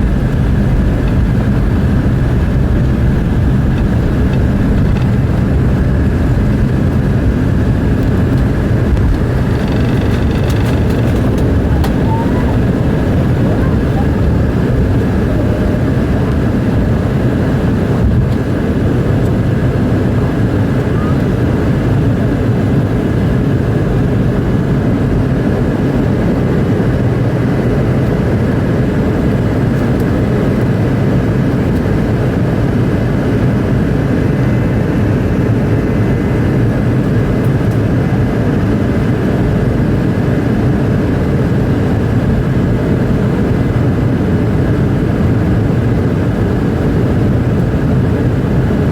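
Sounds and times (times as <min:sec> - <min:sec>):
airliner cabin noise at takeoff: 0:00.0 - 0:48.9.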